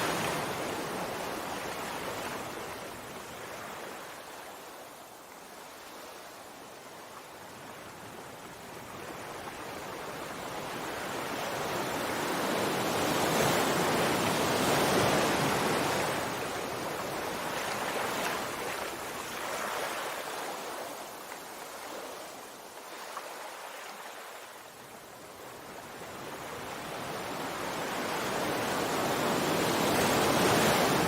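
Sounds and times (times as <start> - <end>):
sea waves washing on shore: 0.0 - 31.0.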